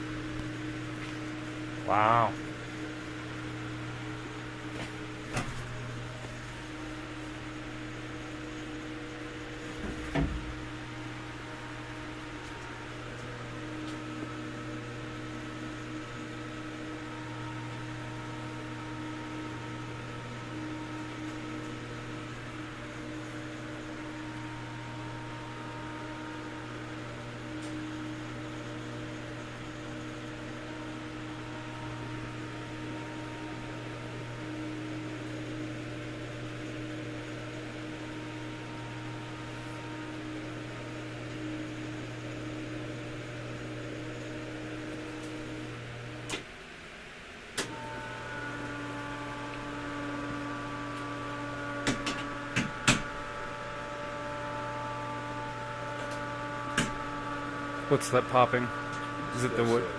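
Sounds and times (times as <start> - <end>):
electric winch motor humming: 0.0 - 59.9.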